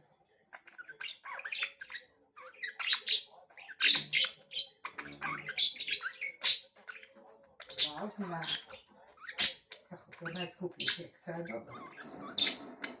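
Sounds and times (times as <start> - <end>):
budgerigars chirping: 0.5 - 13.0.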